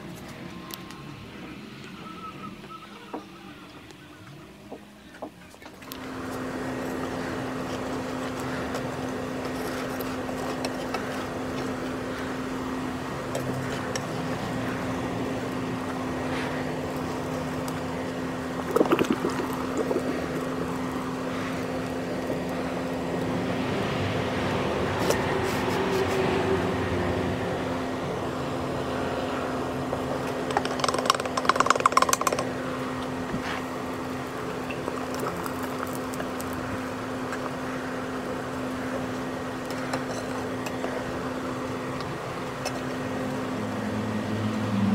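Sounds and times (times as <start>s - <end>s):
low hum: 0.0s - 44.9s.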